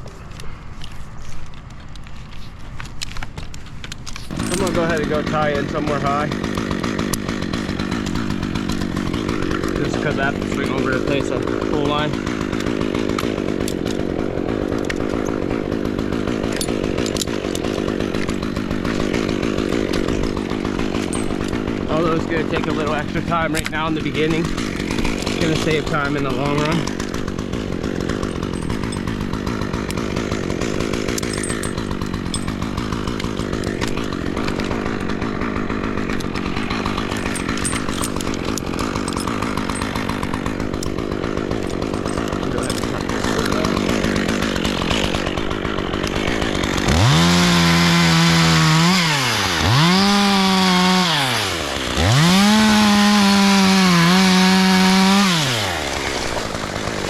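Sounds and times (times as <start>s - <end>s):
chainsaw idling: 0.0s - 57.0s
chainsaw revving at full throttle: 4.3s - 57.0s.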